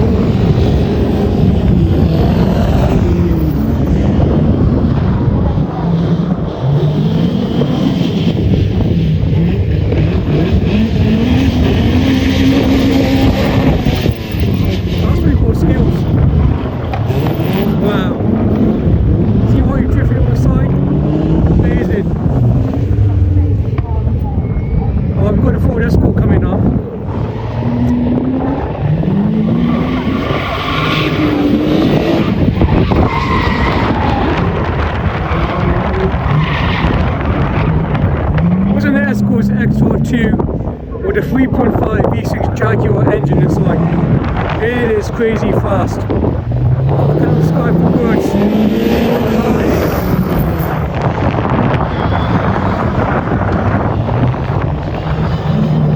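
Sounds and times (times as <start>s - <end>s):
rally car engine running hard: 0.0s - 55.9s
wind on microphone: 0.0s - 55.9s.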